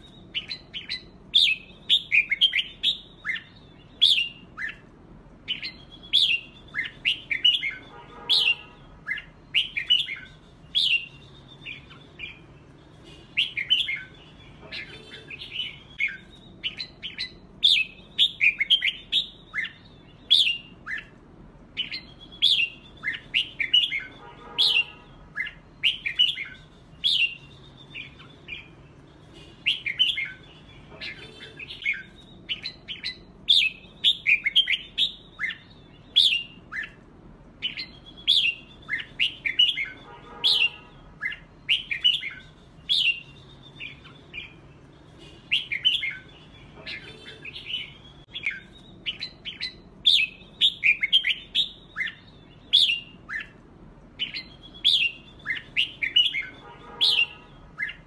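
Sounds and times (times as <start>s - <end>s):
bird song chirpy phrases: 0.0s - 58.0s.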